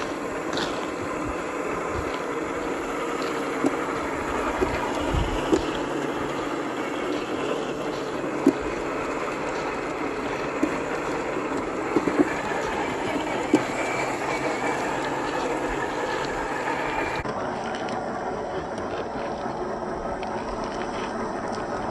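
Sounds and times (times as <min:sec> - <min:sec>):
toy car motor whine: 0:00.0 - 0:21.9
tyres crunching on stones: 0:00.0 - 0:21.9
wheels knocking on rocks: 0:00.0 - 0:21.9.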